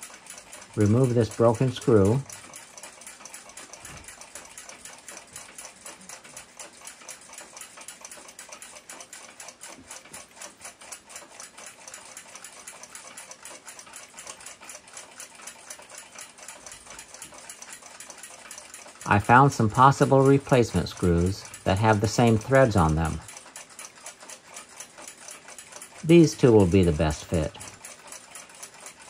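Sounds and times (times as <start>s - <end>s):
clock ticking fast: 0.0s - 29.0s.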